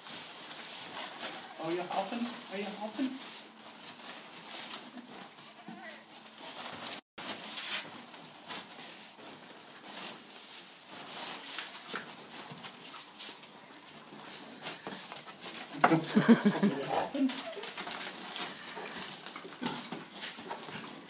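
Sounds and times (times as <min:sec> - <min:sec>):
plastic sack crinkling and rustling: 0:00.0 - 0:05.4, 0:06.2 - 0:15.8, 0:17.2 - 0:21.0.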